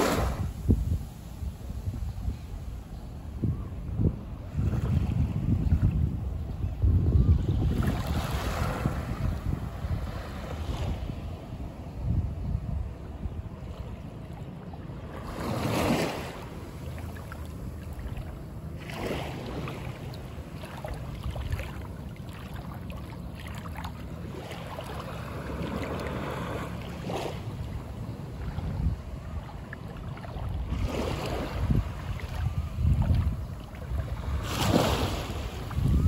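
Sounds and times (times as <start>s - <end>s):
small waves lapping on sand: 0.0s - 3.4s, 4.4s - 6.4s, 7.4s - 12.0s, 13.0s - 36.0s
wind rumble on microphone: 0.0s - 36.0s.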